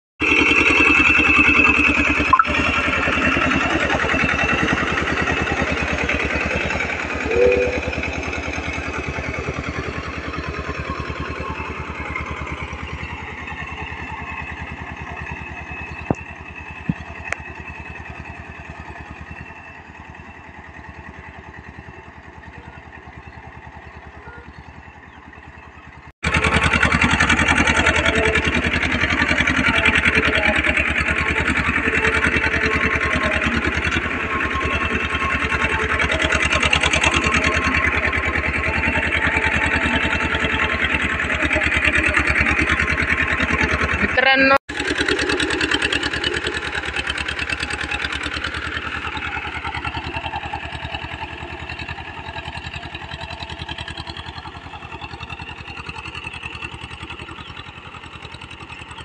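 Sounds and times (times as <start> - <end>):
tractor diesel engine running: 0.2 - 59.0.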